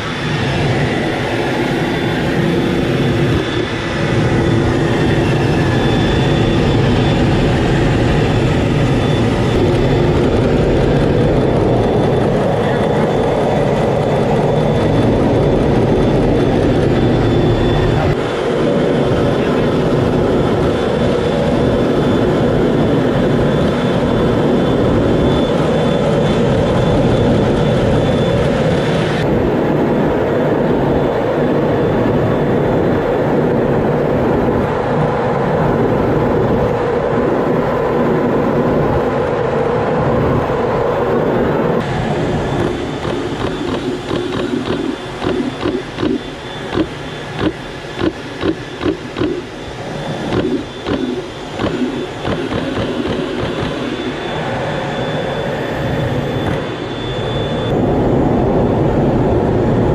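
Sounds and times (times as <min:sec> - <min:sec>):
jet engines roaring: 0:00.0 - 0:59.9
rushing air: 0:00.0 - 0:59.9.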